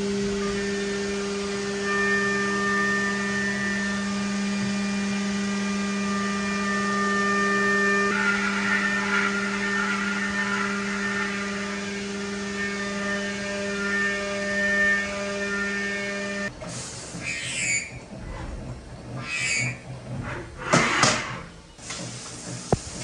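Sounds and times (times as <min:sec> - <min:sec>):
milling machine humming: 0:00.0 - 0:23.0.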